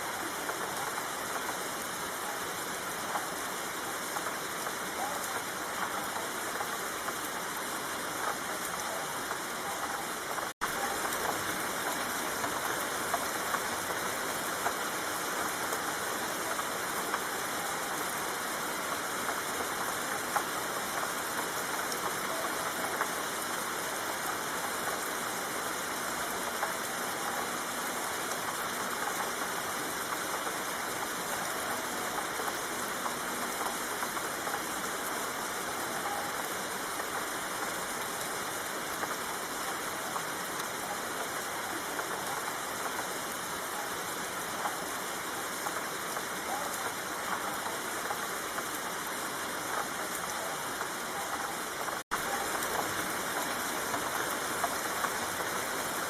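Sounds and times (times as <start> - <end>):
steady rain: 0.0 - 56.0
raindrop ticks: 0.1 - 56.0.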